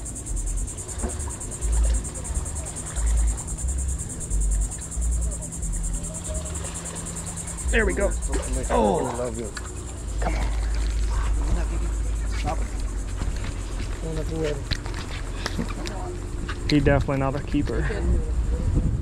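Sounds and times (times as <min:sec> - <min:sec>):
insects buzzing: 0:00.0 - 0:19.0
wind buffeting microphone: 0:00.0 - 0:19.0.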